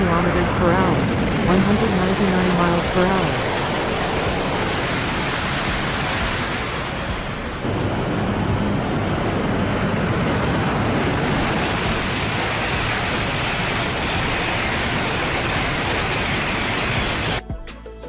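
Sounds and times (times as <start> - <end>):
high-speed train rushing past: 0.0 - 17.4.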